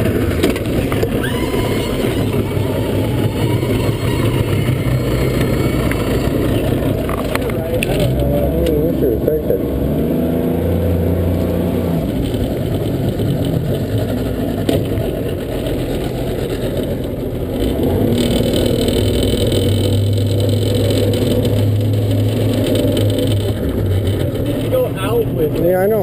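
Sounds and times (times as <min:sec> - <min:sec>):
muffled boat engine: 0:00.0 - 0:26.0.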